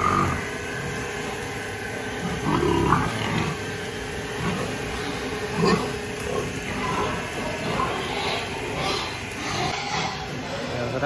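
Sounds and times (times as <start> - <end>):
pigs grunting and squealing: 0.0 - 11.0
steady mechanical hum: 0.0 - 11.0.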